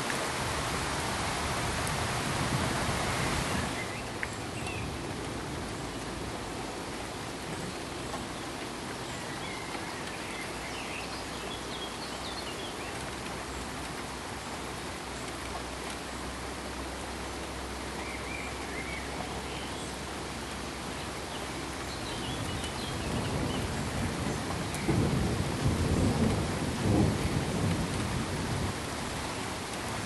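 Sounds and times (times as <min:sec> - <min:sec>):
steady pink noise hiss: 0:00.0 - 0:30.0.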